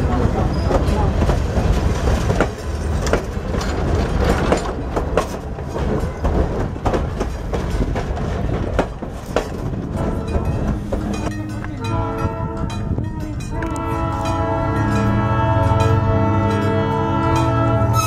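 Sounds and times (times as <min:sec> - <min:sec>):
train wheels rumbling on rail: 0:00.0 - 0:18.0
wheels clicking over rail joints: 0:00.0 - 0:18.0.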